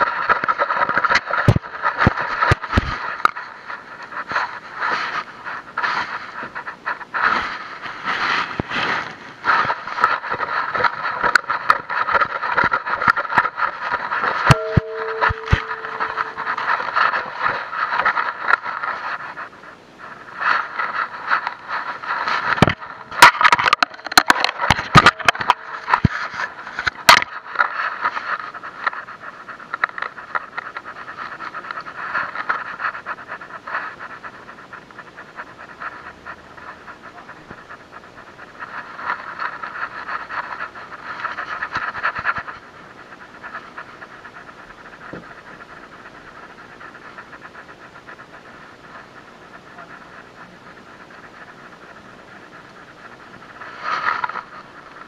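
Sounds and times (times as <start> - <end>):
muffled rubbing and scraping: 0.0 - 55.0.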